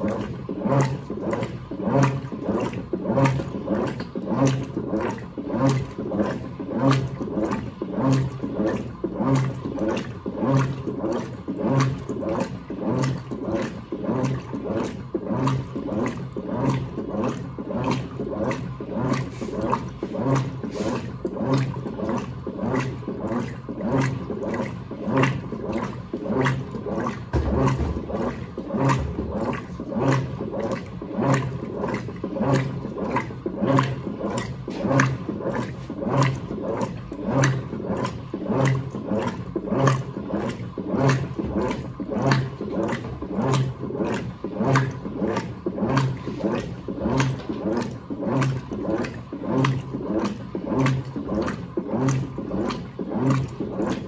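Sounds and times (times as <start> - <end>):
washing machine agitating: 0.0 - 54.0
water churning: 0.0 - 54.0.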